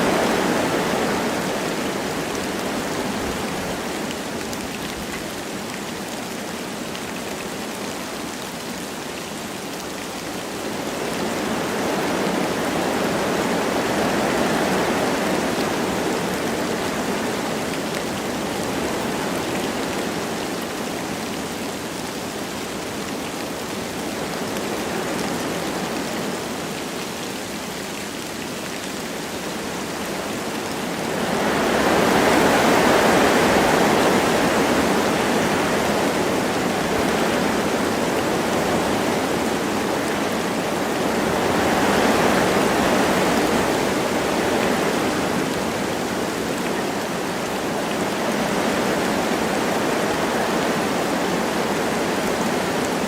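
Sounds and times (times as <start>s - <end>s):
light rain patter: 0.0s - 53.0s
wind through forest trees: 0.0s - 53.0s.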